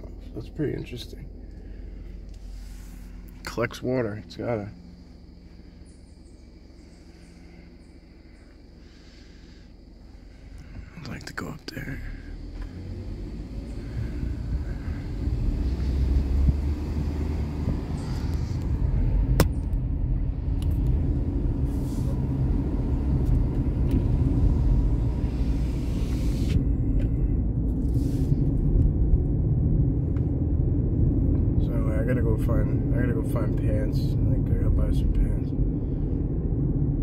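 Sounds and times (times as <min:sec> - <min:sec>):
vehicle rumble from inside: 0:00.0 - 0:37.0.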